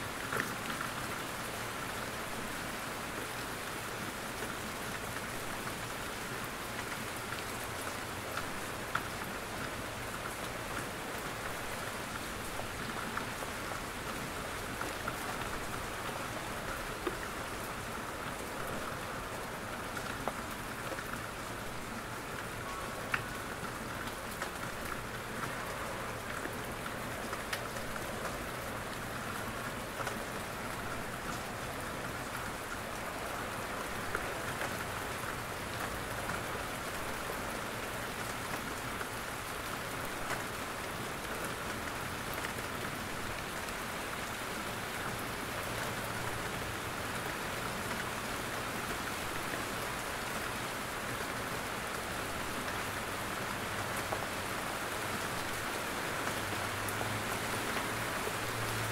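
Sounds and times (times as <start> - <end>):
steady rain in forest: 0.0 - 58.9.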